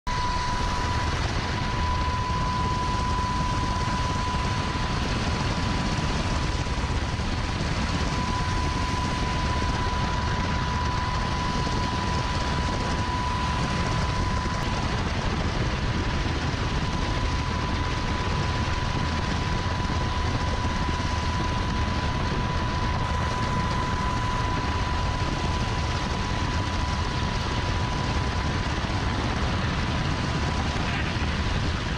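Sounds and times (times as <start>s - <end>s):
constant whine: 0.1s - 31.9s
helicopter rotor and engine din: 0.1s - 31.9s.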